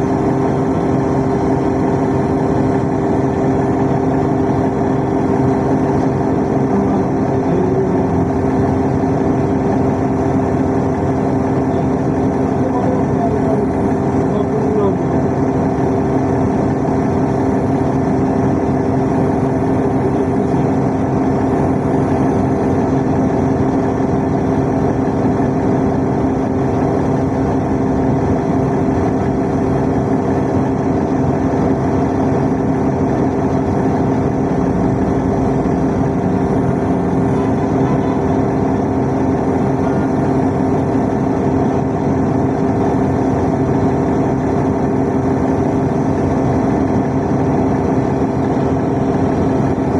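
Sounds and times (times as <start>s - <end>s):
bus engine drone: 0.0s - 49.9s.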